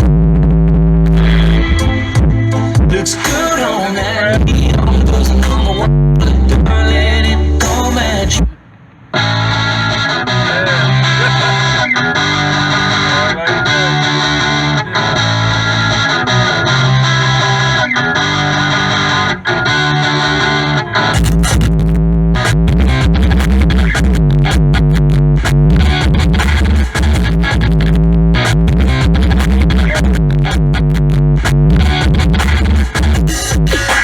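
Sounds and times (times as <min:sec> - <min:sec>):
heavy deep bass music: 0:00.0 - 0:08.5, 0:09.2 - 0:34.0
distorted electric guitar riff: 0:00.0 - 0:34.0.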